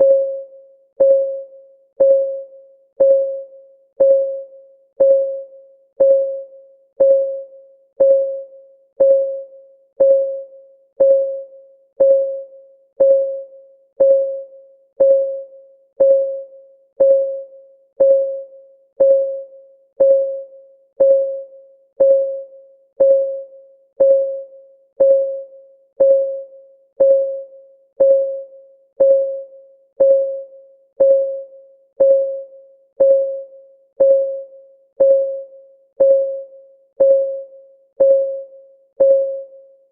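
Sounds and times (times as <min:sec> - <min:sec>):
electronic timer ticks: 0:01.0 - 0:39.5.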